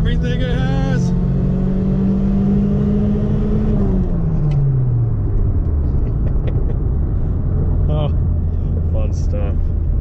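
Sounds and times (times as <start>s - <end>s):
car engine at full throttle: 0.0s - 10.0s.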